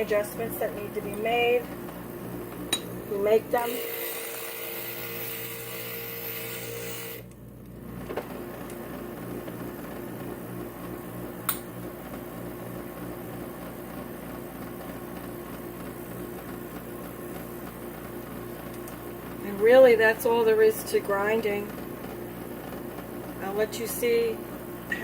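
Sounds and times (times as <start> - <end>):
grinder motor humming: 0.0 - 25.0.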